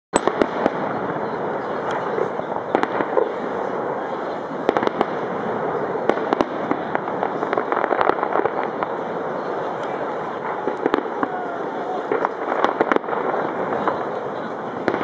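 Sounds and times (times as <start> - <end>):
fireworks bangs: 0.2 - 15.0
steady noise: 0.2 - 15.0.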